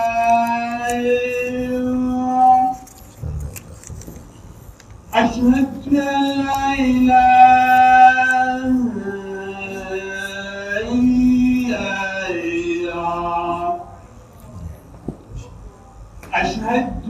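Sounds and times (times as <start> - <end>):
man chanting: 0.0 - 4.2, 5.1 - 13.9, 16.3 - 17.0.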